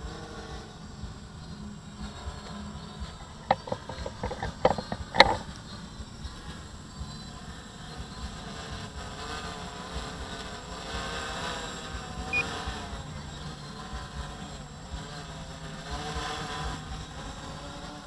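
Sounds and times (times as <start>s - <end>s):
drone propellers humming: 0.0s - 18.0s
low uneven rumble: 0.0s - 18.0s.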